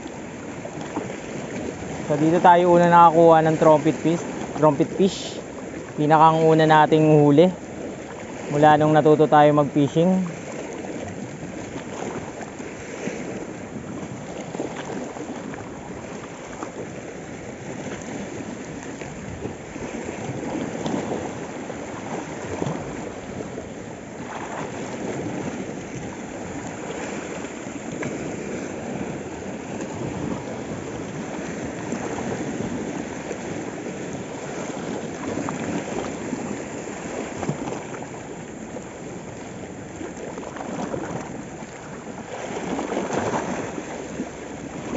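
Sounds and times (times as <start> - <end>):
waves splashing against rocks: 0.0 - 44.9.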